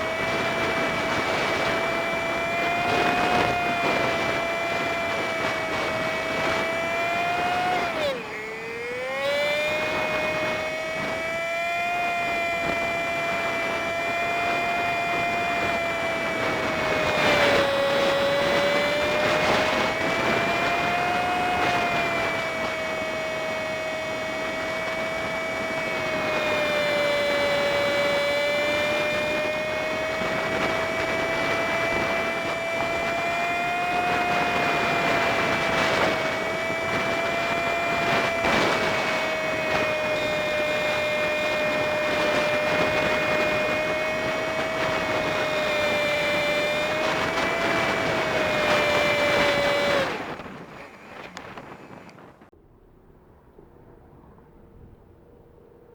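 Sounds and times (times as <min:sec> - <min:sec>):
high-pitched engine whine: 0:00.0 - 0:55.9
wind and road noise: 0:00.0 - 0:55.9.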